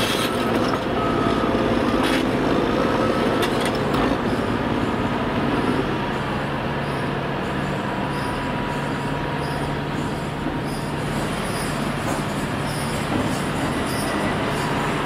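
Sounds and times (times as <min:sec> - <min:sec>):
diesel machinery engines humming: 0:00.0 - 0:15.0.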